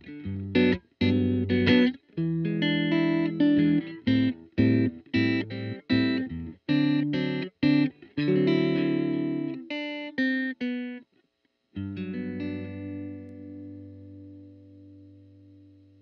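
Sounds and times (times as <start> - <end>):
electric guitar choppy chords: 0.0 - 11.0, 11.8 - 16.0.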